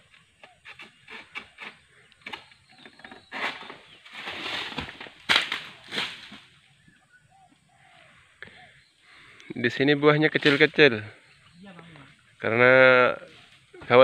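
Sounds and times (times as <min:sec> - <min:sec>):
fronds rustling: 0:00.0 - 0:08.4, 0:10.1 - 0:14.0.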